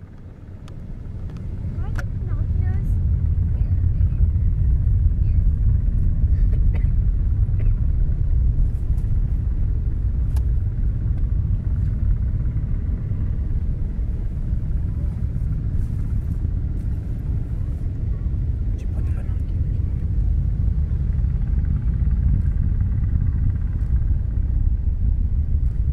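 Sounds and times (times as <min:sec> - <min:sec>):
distant rocket launch rumble: 0:00.0 - 0:25.9.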